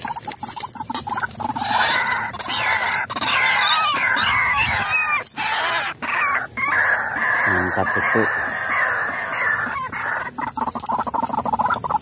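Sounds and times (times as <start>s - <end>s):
waterhen harsh chattering calls: 0.8s - 12.0s.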